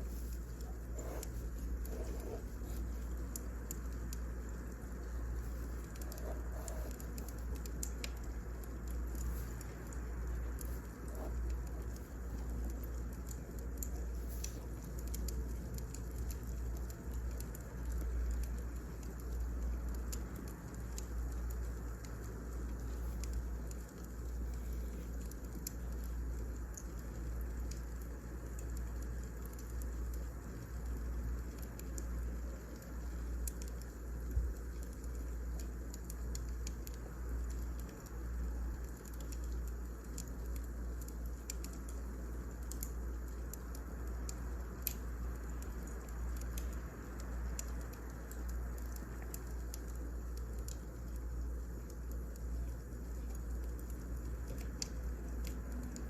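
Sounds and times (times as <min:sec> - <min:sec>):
firewood crackling and popping: 0:00.0 - 0:56.0
low steady rumble: 0:00.0 - 0:56.0.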